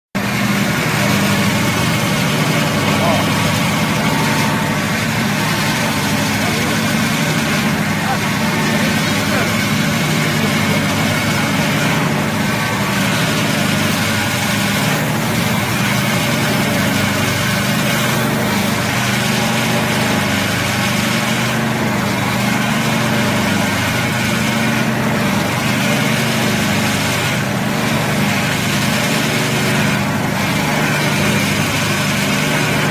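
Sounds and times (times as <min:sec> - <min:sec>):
band saw humming: 0:00.2 - 0:32.9.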